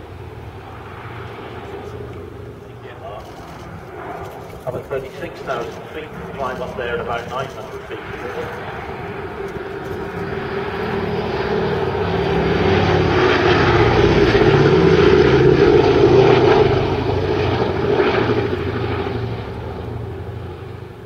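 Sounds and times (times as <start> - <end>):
propeller aircraft flying over: 0.0 - 21.0.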